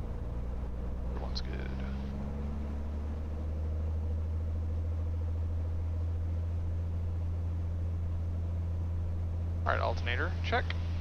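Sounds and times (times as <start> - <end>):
aircraft engine low drone: 0.0 - 11.0.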